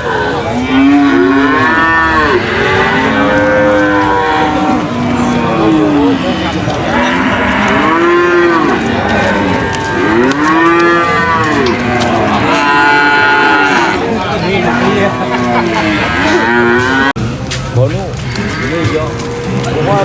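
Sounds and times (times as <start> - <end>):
cattle mooing: 0.0 - 17.2, 18.3 - 20.0.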